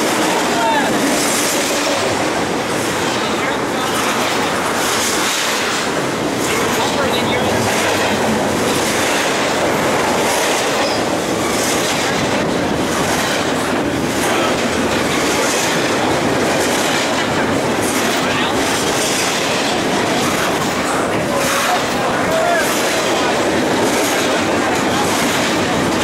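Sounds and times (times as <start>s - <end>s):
freight cars rattling: 0.0s - 26.0s
steel wheels on rails: 0.0s - 26.0s.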